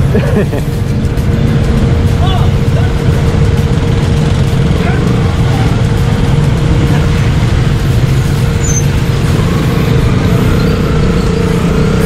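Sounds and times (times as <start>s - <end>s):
buses and motorbikes: 0.0s - 12.0s
scooter engine: 0.0s - 12.0s
steady traffic hum: 0.0s - 12.0s.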